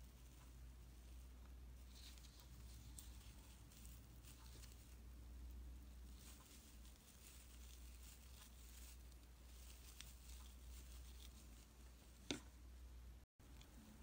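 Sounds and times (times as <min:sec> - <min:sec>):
crochet hook rustling yarn: 0:00.0 - 0:14.0
low steady hum: 0:00.0 - 0:14.0.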